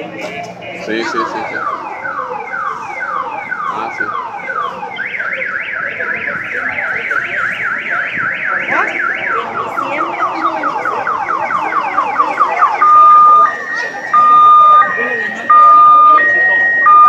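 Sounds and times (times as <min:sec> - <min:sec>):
car alarm siren: 0:00.6 - 0:17.0.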